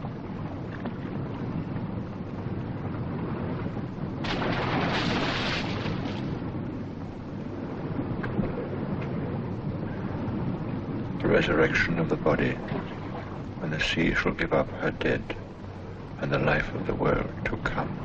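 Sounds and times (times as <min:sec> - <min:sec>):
waves washing: 0:00.0 - 0:18.0
wind: 0:00.0 - 0:18.0.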